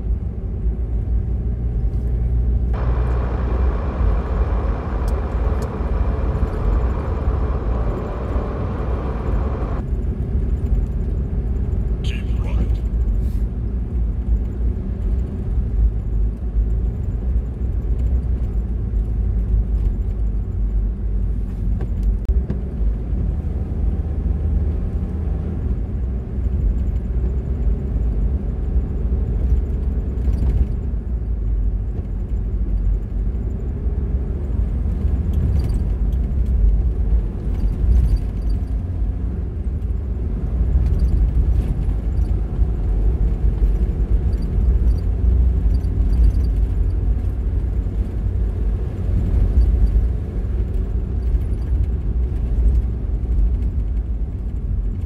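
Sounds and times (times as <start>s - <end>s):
tyre noise on road: 0.0s - 12.0s, 12.8s - 55.0s
car engine rumble: 0.0s - 55.0s.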